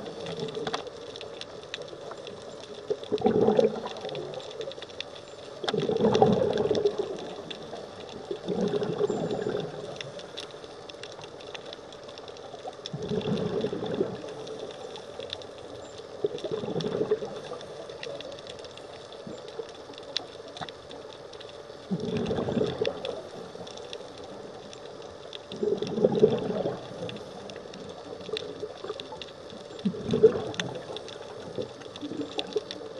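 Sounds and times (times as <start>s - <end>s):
faint sharp clicks: 0.0s - 32.9s
underwater exhaled bubbles: 0.0s - 32.9s.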